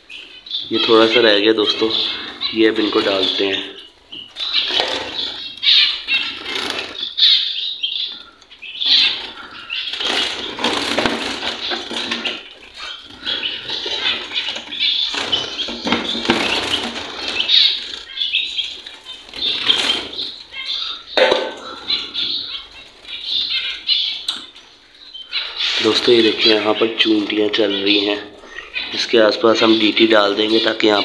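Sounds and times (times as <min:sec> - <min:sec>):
birds beating wings: 0:00.0 - 0:31.0.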